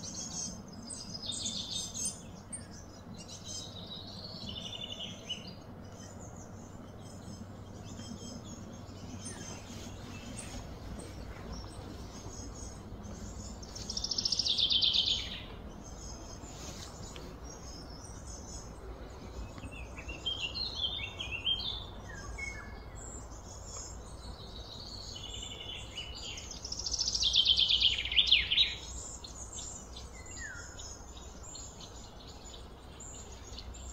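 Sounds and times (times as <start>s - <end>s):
birds chirping and calling: 0.0s - 33.9s
outdoor background noise: 0.0s - 33.9s.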